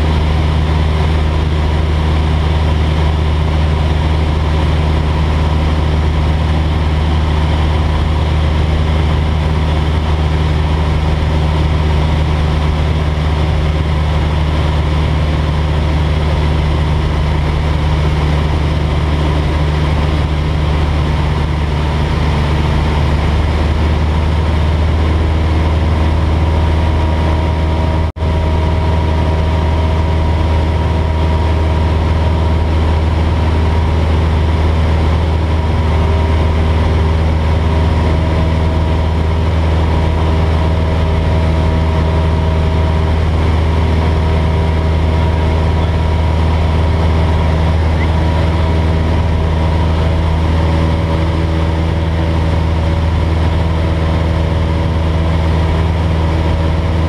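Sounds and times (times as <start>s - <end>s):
light aircraft engine drone: 0.0s - 57.0s.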